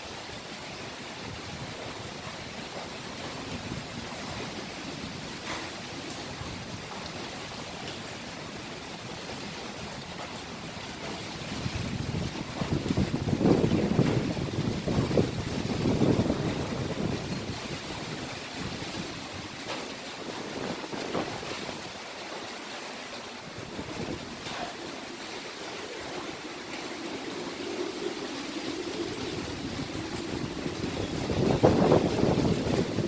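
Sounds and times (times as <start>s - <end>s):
low wind howl: 0.0s - 33.0s
wind gusting hard: 0.0s - 33.0s.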